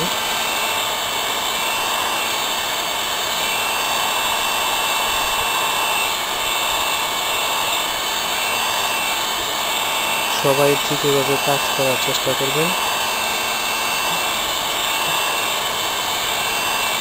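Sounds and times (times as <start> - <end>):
hot air gun blowing: 0.0 - 17.0.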